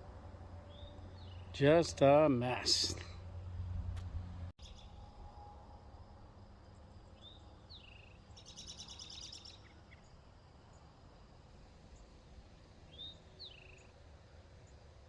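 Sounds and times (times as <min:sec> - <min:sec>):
faint outdoor ambience: 0:00.0 - 0:15.0
songbirds chirping and trilling: 0:00.2 - 0:03.6, 0:04.6 - 0:05.1, 0:06.6 - 0:15.0.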